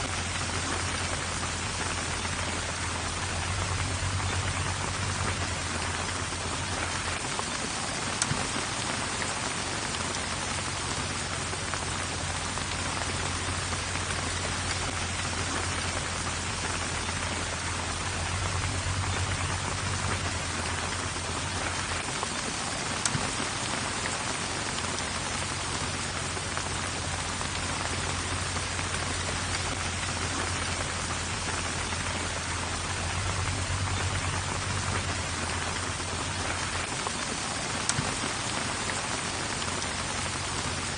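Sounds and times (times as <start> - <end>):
low steady hum: 0.0 - 40.9
steady rain: 0.0 - 40.9.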